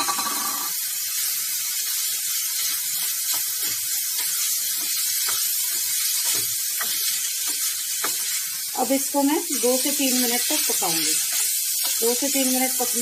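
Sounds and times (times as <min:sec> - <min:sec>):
vegetables sizzling in wok: 0:00.0 - 0:13.0.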